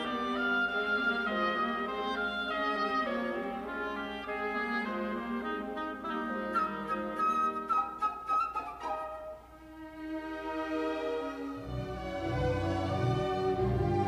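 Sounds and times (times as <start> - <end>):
orchestral music: 0.0 - 14.0.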